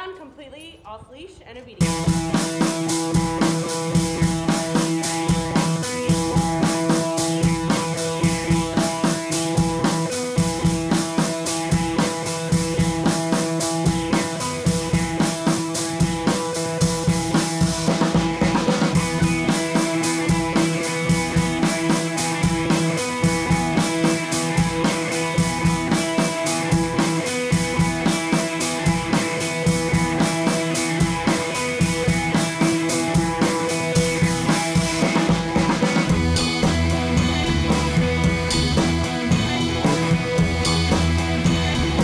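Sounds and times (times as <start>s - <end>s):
drum and guitar music: 1.7s - 42.0s.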